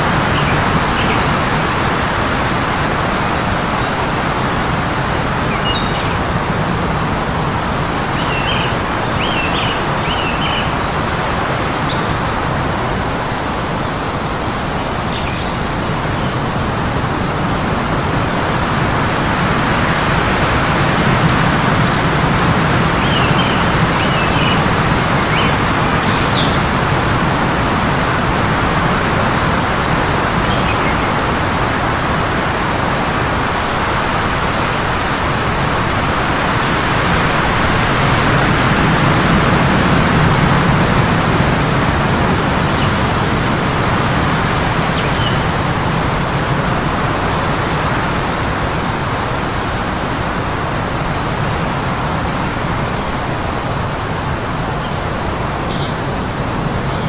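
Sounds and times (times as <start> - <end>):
heavy blizzard wind: 0.0 - 57.0.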